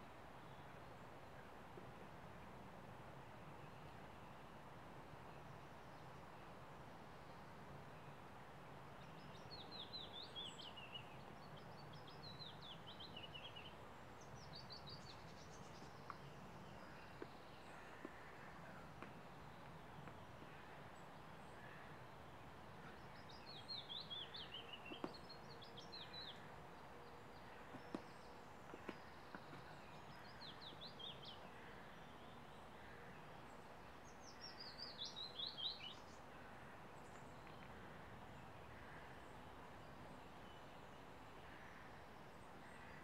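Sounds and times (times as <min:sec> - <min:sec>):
faint outdoor hiss: 0:00.0 - 0:43.0
songbird singing: 0:03.2 - 0:43.0.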